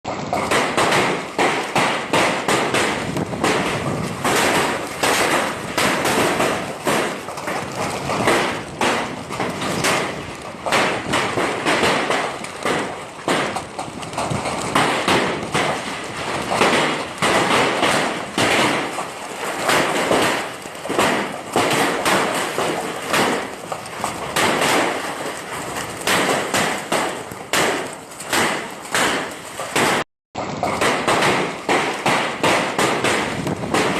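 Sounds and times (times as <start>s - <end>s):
hailstones clattering: 0.1s - 33.9s.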